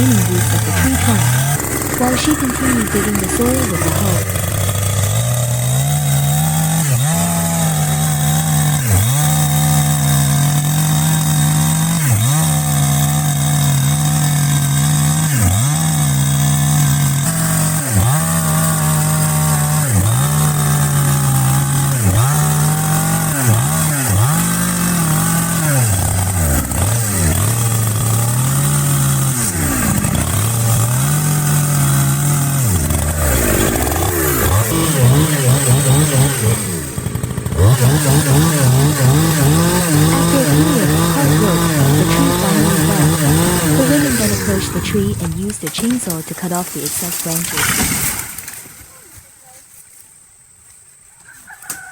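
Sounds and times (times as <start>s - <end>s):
chainsaw cutting roots: 0.0s - 49.3s.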